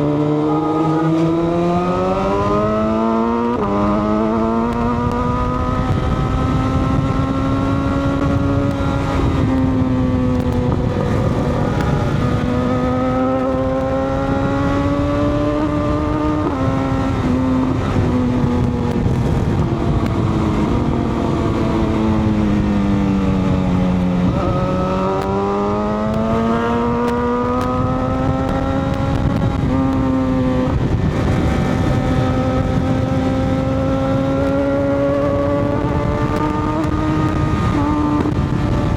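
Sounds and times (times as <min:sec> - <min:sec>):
wind noise rumble: 0:00.0 - 0:38.9.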